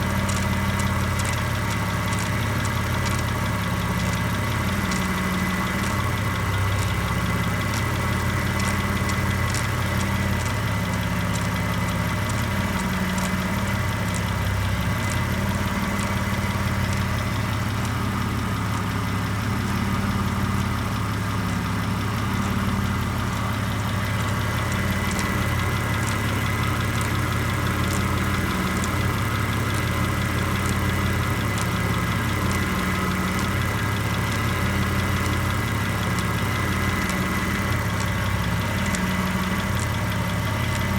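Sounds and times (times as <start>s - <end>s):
car engine idling: 0.0s - 40.9s
light engine ticking: 0.0s - 40.9s.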